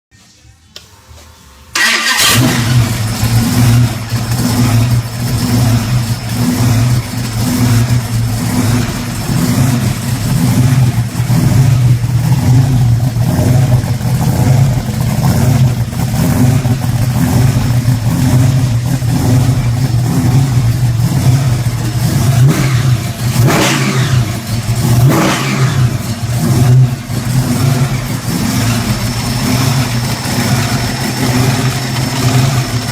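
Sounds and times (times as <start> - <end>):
engine idling lumpily with throttle blips: 1.7 - 32.9.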